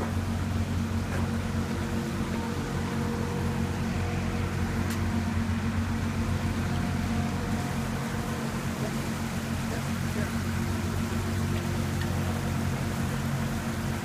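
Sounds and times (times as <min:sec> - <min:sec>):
low machine hum: 0:00.0 - 0:14.0
water rushing over rocks: 0:00.0 - 0:14.0.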